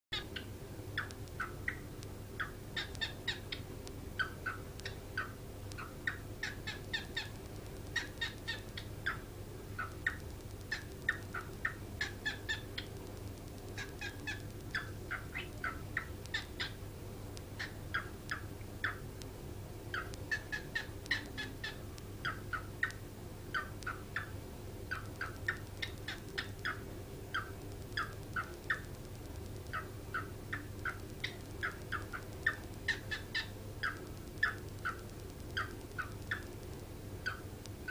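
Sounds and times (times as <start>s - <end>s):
pet bird chirping and clicking: 0.1s - 37.9s
steady low hum: 0.1s - 37.9s.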